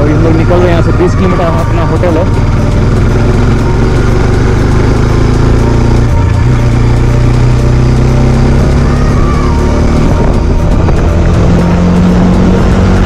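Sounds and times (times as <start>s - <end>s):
motorcycle engine running: 0.0s - 13.0s
wind and road rush: 0.0s - 13.0s.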